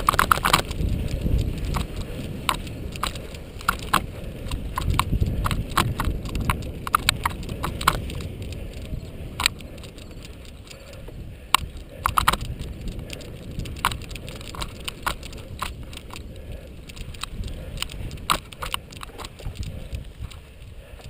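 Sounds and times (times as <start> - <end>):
bike clicks and rattles: 0.0 - 21.0
bike tyres rolling rumble: 0.0 - 21.0.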